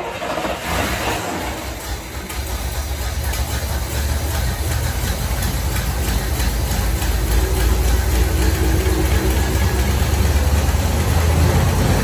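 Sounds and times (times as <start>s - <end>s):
car engine running: 0.6s - 12.0s.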